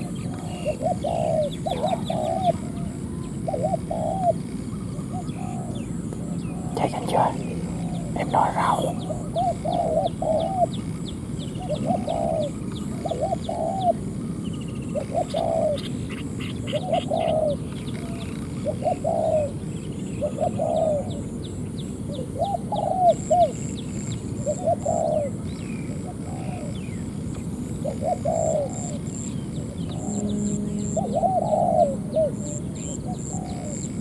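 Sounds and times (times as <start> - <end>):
doves cooing: 0.0 - 14.0, 14.7 - 21.4, 22.1 - 23.7, 24.4 - 27.0, 27.8 - 34.0
small birds chirping: 0.0 - 34.0
steady low background noise: 0.0 - 34.0.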